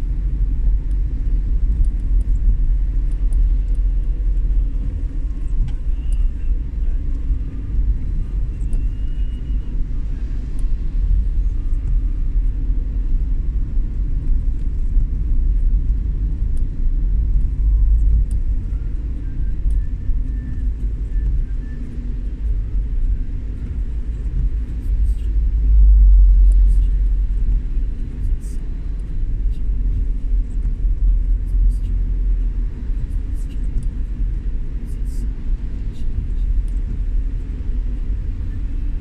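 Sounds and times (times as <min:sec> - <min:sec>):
vehicle rumbling along a road: 0:00.0 - 0:39.0.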